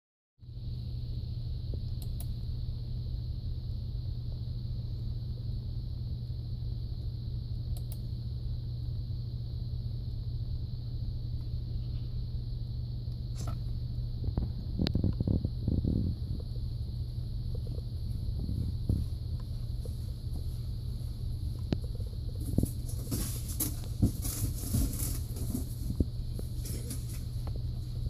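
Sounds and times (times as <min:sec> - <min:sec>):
faint high whine: 0:00.4 - 0:28.0
low electrical hum: 0:00.4 - 0:28.0.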